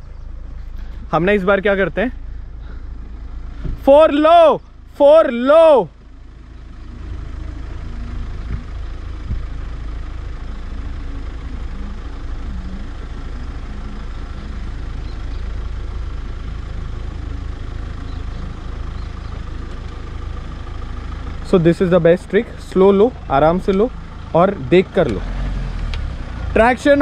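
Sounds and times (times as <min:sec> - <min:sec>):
engine running at low revs: 0:00.0 - 0:27.0.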